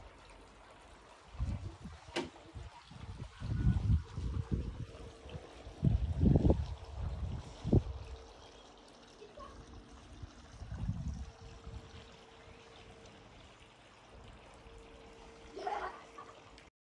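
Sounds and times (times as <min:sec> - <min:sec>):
faint steady hum: 0:00.0 - 0:16.7
faint trickling water: 0:00.0 - 0:16.7.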